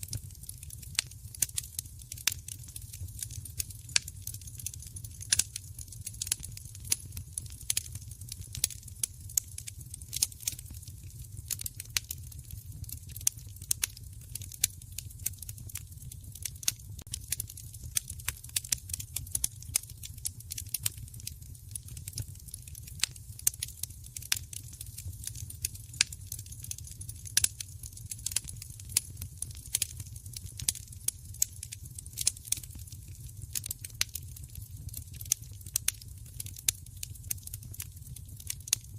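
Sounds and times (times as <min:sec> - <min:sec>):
fire pops and snaps: 0:00.0 - 0:38.9
wood fire crackling: 0:00.0 - 0:38.9.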